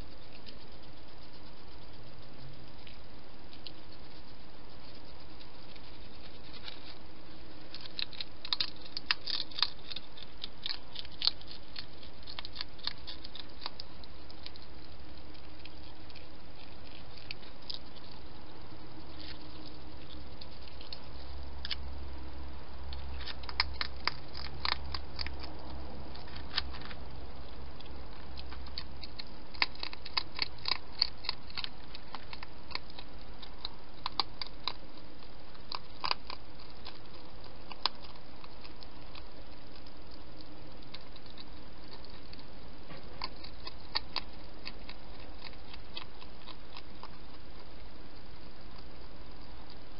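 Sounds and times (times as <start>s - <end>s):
hedgehog chewing and crunching: 0.0s - 49.9s.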